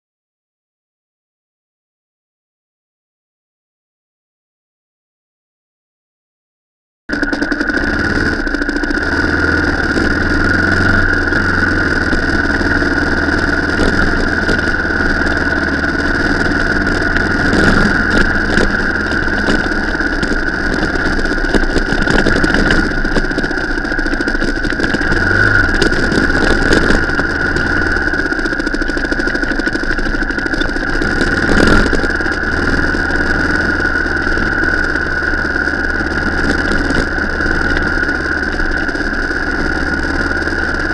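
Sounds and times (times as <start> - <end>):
car engine running: 7.1 - 40.9
high-pitched whine: 7.1 - 40.9.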